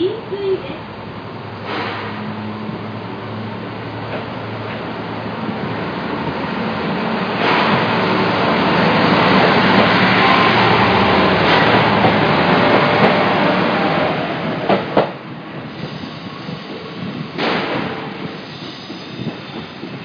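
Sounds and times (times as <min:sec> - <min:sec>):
diesel railcar rumbling: 0:00.0 - 0:20.0.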